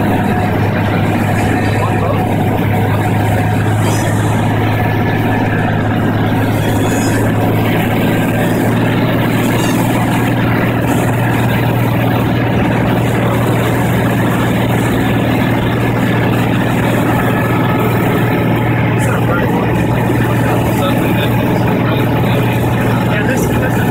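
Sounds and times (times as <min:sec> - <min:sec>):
airplane engine drone in cockpit: 0:00.0 - 0:23.9.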